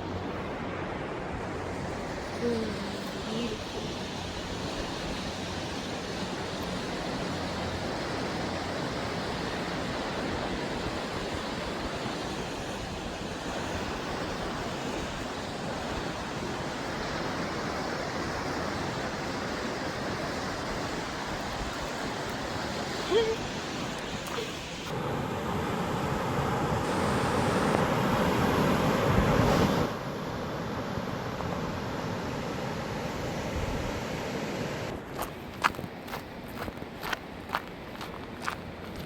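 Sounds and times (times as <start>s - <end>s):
steady rushing noise outdoors: 0.0s - 39.0s.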